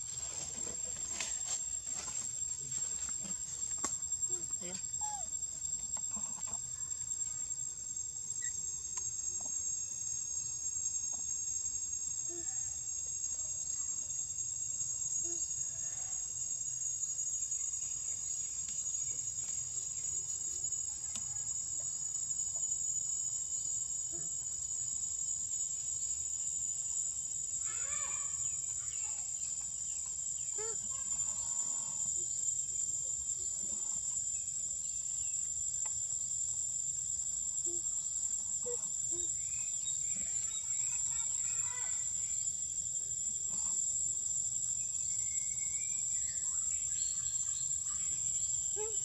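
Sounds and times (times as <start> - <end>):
high-pitched insect drone: 0.0 - 49.0
faint chirps: 4.1 - 49.0.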